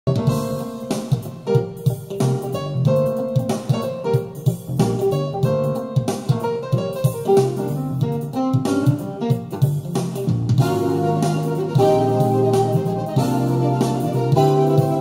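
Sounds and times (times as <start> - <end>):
guitar instrumental music on speakers: 0.1 - 15.0.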